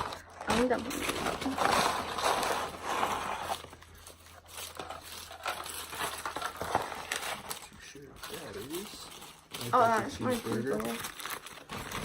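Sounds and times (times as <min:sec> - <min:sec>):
paper bags rustling: 0:00.0 - 0:12.0.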